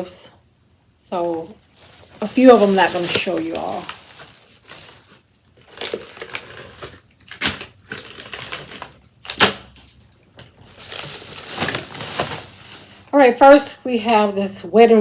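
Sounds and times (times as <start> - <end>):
plastic packaging rustling: 1.1 - 13.2.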